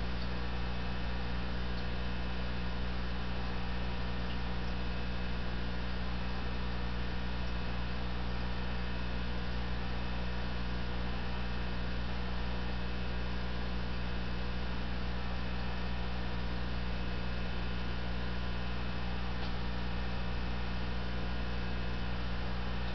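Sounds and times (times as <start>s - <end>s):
electrical mains hum: 0.0s - 22.9s.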